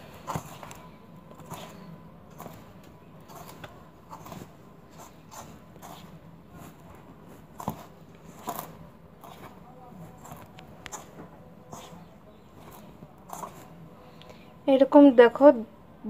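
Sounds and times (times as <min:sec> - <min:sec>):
hand rubbing dough in bowl: 0:00.0 - 0:14.2.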